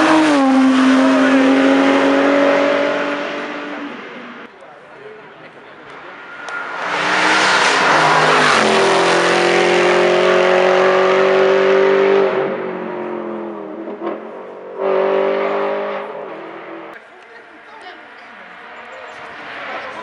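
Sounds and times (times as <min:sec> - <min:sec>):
race car engine passing: 0:00.0 - 0:04.5, 0:05.8 - 0:20.0.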